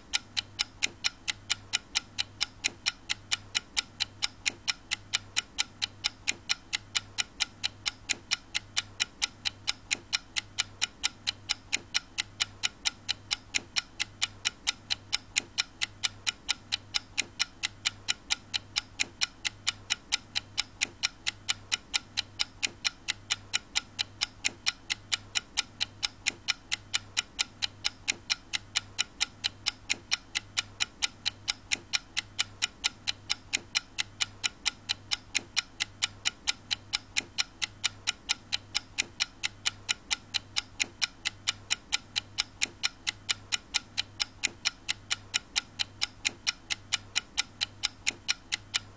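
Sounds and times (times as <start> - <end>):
clock ticking: 0.0 - 48.9.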